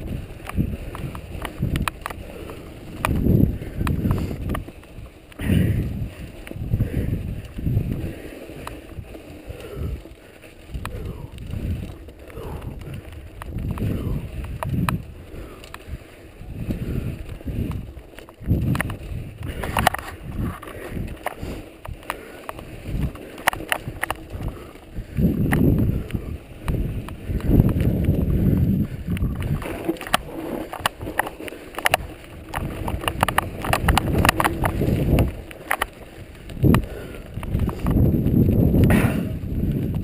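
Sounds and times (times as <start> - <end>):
bike frame rattling and clicking: 0.0 - 40.0
tyres crunching on snow and gravel: 0.0 - 40.0
wind rumbling on microphone: 0.0 - 40.0.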